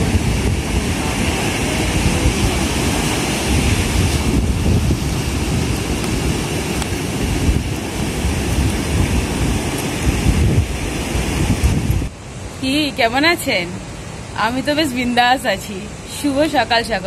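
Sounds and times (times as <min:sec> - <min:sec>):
sea waves breaking on beach: 0:00.0 - 0:17.0
strong wind buffeting microphone: 0:00.0 - 0:17.0.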